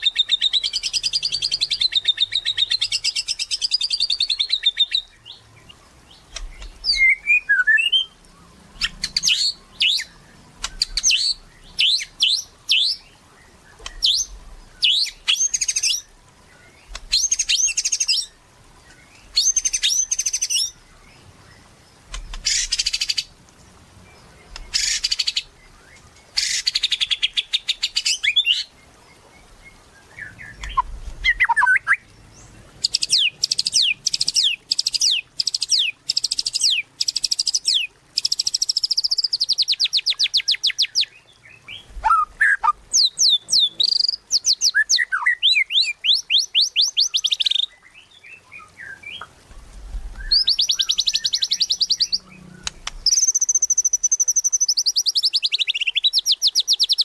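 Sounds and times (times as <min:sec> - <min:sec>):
bird singing trills: 0:00.0 - 0:23.4, 0:24.0 - 0:49.3, 0:50.1 - 0:57.0.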